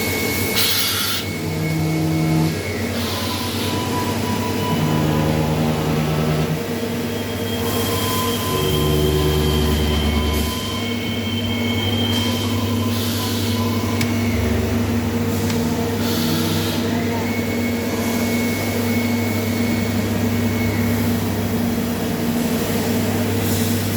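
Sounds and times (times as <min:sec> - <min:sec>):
machine motor hum with high whine: 0:00.0 - 0:23.9.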